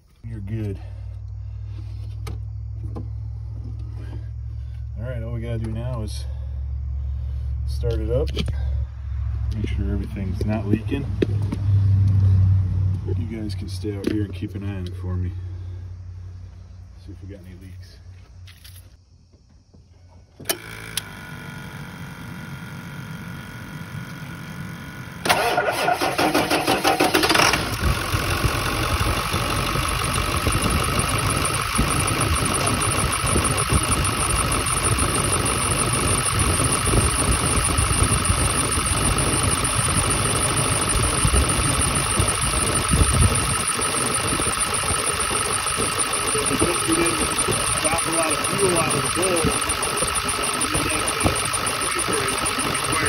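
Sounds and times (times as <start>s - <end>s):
diesel engine starting and idling: 0.0s - 18.0s, 20.3s - 53.0s.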